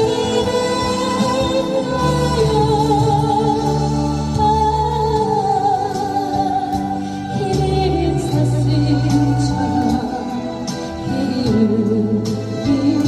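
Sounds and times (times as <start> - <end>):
backing track music: 0.0 - 13.0.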